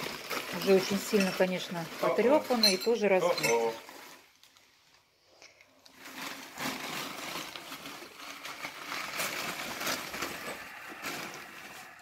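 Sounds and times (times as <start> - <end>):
newspaper rustling and crackling: 0.0 - 5.0, 5.9 - 12.0.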